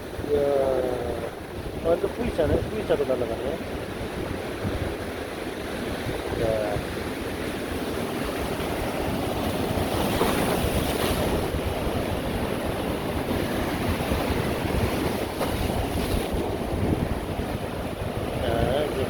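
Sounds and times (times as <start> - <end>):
wind buffeting microphone: 0.0 - 19.0
sea waves breaking on shore: 1.1 - 19.0.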